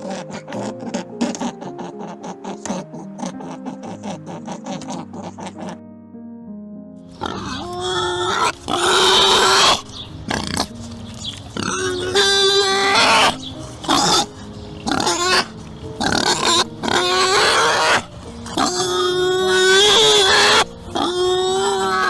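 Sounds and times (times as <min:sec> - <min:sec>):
animal harsh cries: 0:00.0 - 0:05.8, 0:07.2 - 0:22.0.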